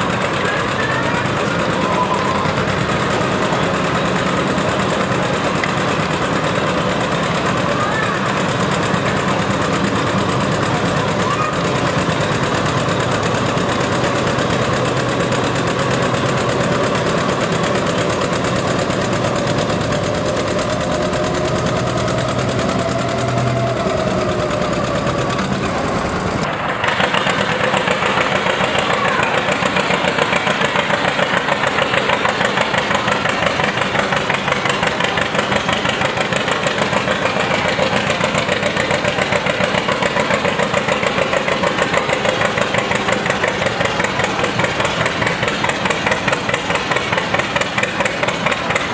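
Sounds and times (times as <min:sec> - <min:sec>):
tractor engine rapid pulsing: 0:00.0 - 0:48.9
tractor engine under load: 0:00.0 - 0:48.9.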